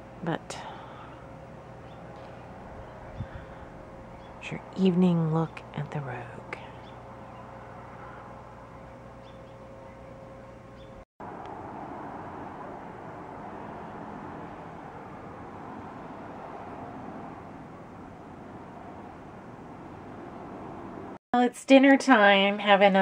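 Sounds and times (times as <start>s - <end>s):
outdoor rumble and hiss: 0.0s - 21.2s.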